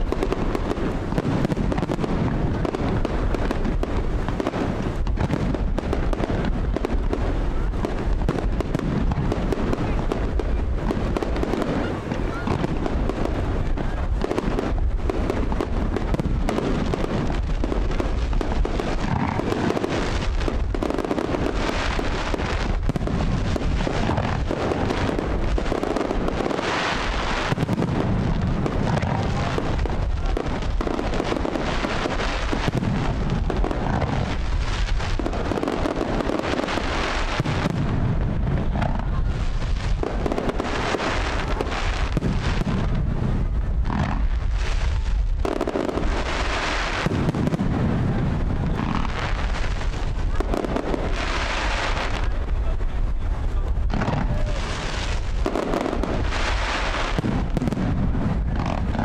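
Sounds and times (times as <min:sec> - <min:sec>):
fireworks booms and bangs: 0:00.0 - 0:59.0.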